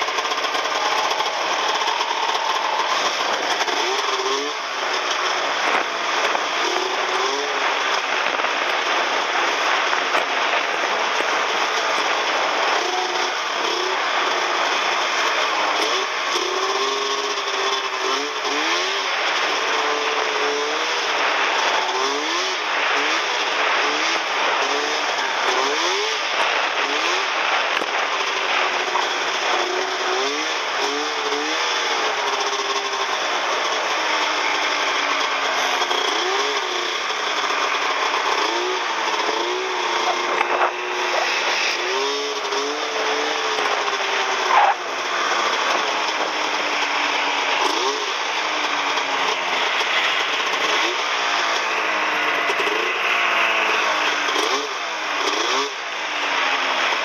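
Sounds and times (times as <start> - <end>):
steady rushing noise: 0.0 - 54.7
snowmobile engine revving: 0.0 - 57.0.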